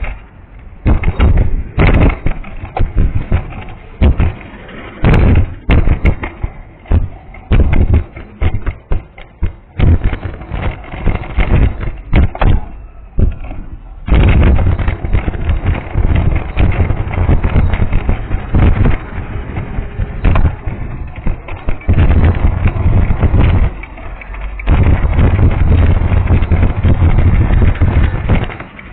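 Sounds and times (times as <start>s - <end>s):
punctured tyre thumping: 0.0s - 28.9s
wind buffeting microphone: 0.0s - 28.9s.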